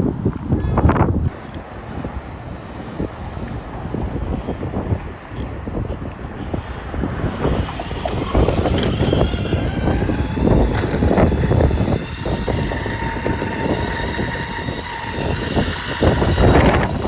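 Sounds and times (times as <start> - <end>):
skateboard wheels rumbling: 0.0 - 17.0
wind buffeting microphone: 0.0 - 17.0
faint steady whine: 1.3 - 17.0.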